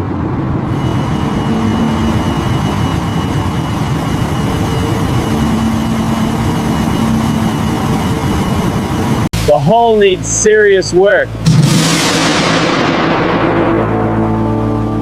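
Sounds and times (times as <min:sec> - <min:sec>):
engine-like mechanical rumble: 0:00.0 - 0:15.0.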